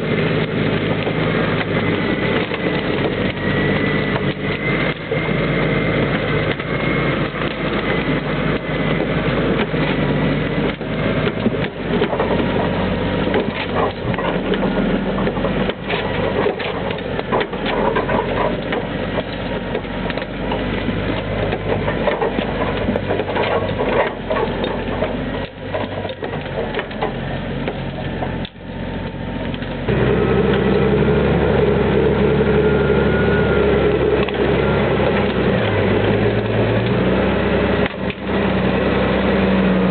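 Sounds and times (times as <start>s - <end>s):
engine knocks and clatter: 0.0s - 39.9s
tractor diesel engine running: 0.0s - 39.9s.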